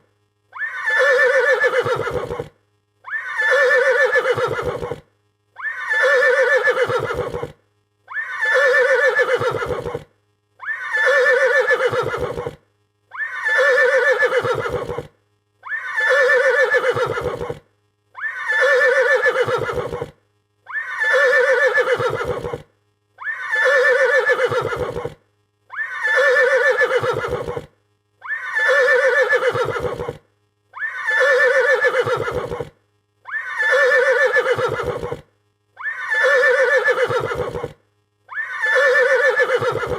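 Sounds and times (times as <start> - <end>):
horse neighing: 0.6 - 2.5, 3.1 - 5.0, 5.6 - 10.0, 10.6 - 17.6, 18.2 - 20.1, 20.7 - 22.6, 23.2 - 30.2, 30.8 - 32.7, 33.3 - 35.2, 35.8 - 39.9.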